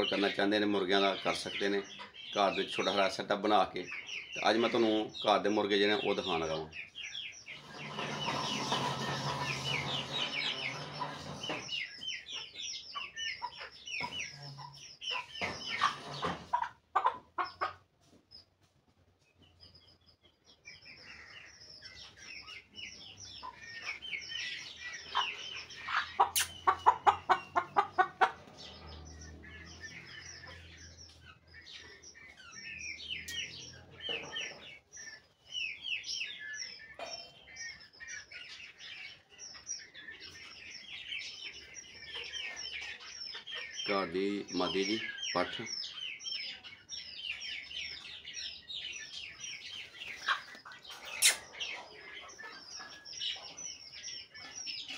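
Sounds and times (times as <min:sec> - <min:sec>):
hen clucking: 0:00.0 - 0:18.5, 0:20.8 - 0:54.9
chicks peeping: 0:00.0 - 0:54.9.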